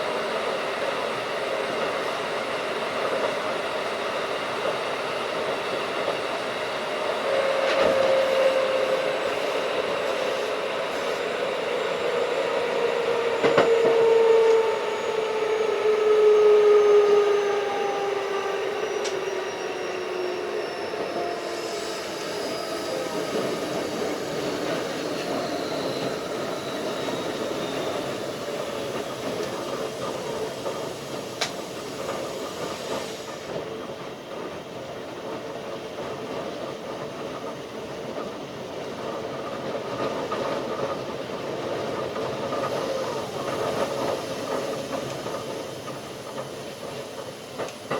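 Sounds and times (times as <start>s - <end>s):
electric train motor whine: 0.0s - 33.6s, 40.3s - 47.9s
wheels rumbling on rail: 0.0s - 47.9s.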